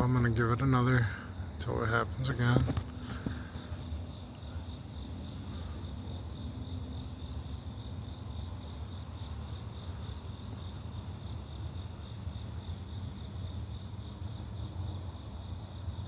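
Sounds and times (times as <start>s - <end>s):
continuous low rumble: 0.0s - 16.0s
crickets trilling: 0.0s - 16.0s.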